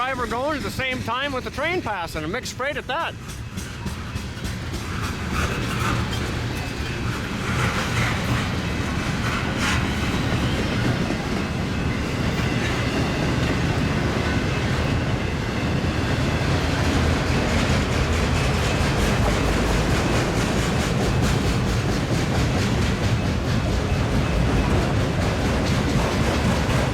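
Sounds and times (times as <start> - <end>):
freight train wheels on rail: 0.0 - 26.9.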